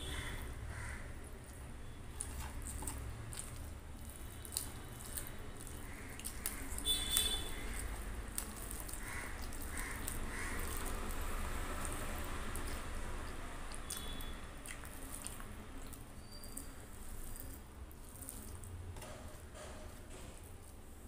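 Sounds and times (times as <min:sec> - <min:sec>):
fingers squishing rice on plate: 0:00.2 - 0:18.7
wet chewing and lip smacks: 0:01.3 - 0:18.8.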